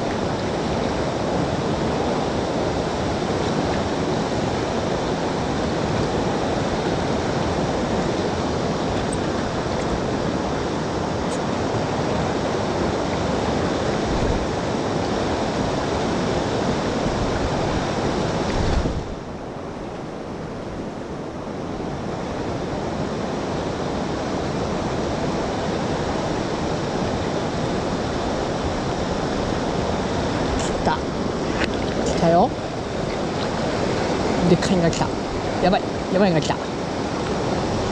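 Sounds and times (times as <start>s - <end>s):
river current rushing: 0.0s - 37.9s.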